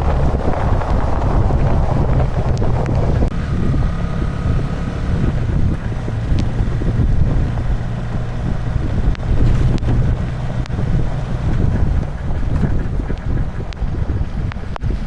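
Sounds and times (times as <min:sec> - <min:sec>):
low engine drone: 0:00.0 - 0:15.0
wind buffeting microphone: 0:00.0 - 0:15.0.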